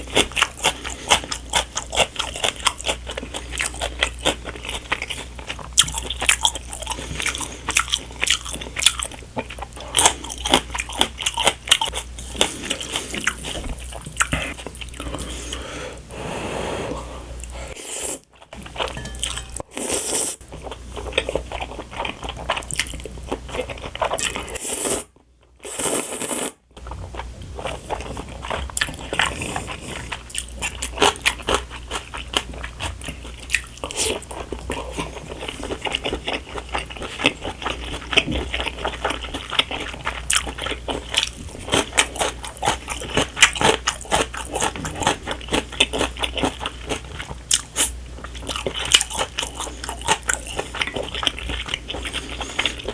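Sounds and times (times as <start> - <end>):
person chewing crunchy food: 0.0 - 15.6, 17.4 - 52.9.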